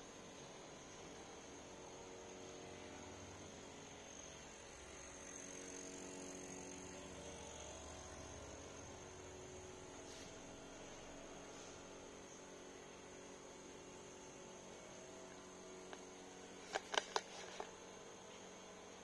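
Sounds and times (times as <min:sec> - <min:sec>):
thin high-pitched whine: 0:00.0 - 0:19.0.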